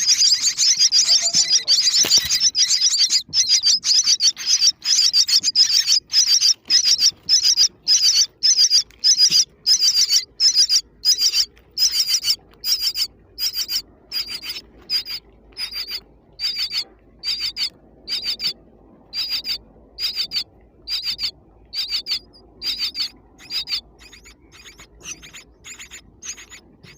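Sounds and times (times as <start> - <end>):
baby birds chirping: 0.0 - 26.9.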